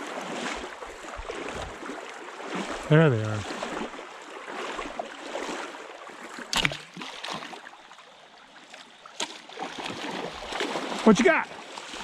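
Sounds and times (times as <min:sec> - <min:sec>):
steady water noise: 0:00.0 - 0:12.0.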